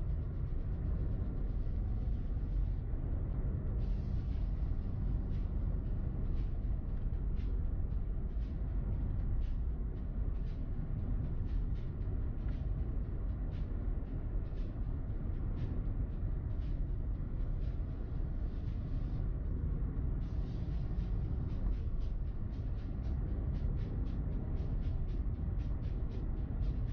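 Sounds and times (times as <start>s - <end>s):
road rumble: 0.0s - 26.9s.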